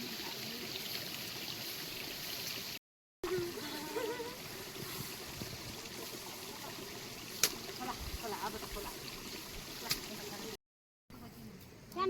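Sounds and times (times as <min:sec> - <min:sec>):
running water: 0:00.0 - 0:10.6.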